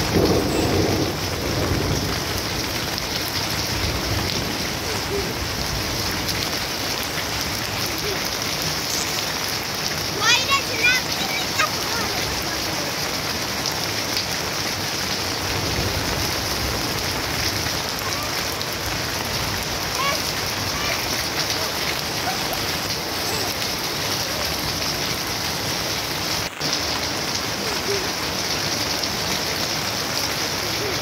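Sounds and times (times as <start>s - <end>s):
rain on puddled ground: 0.0s - 31.0s.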